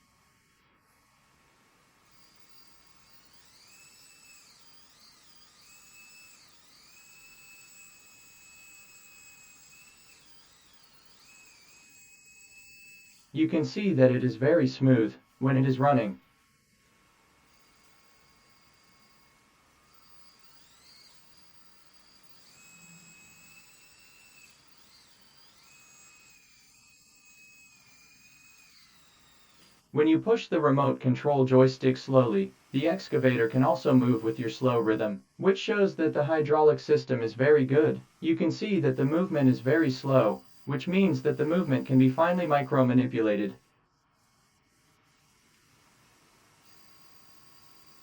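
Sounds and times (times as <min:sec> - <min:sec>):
hydraulic pump motor whine: 0:00.0 - 0:48.0.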